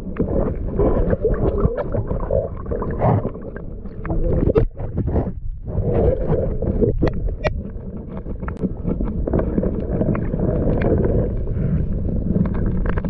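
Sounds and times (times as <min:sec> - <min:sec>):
underwater clicks and crackles: 0:00.0 - 0:13.0
underwater rumble of moving water: 0:00.0 - 0:13.0.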